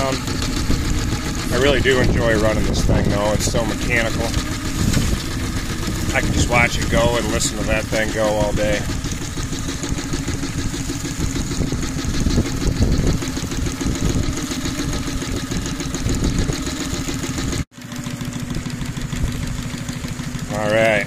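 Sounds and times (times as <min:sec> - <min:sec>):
model steam engine beating: 0:00.0 - 0:21.0.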